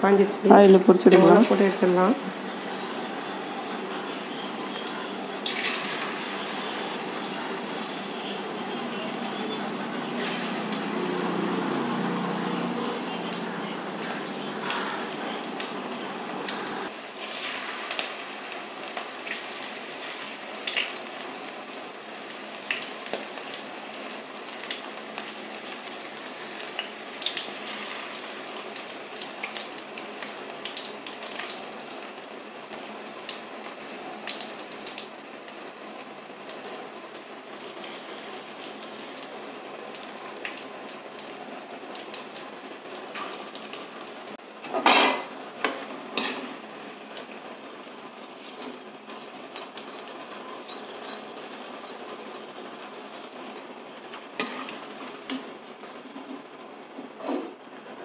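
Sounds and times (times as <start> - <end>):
deep-frying sizzle with pops: 0.4 - 57.9.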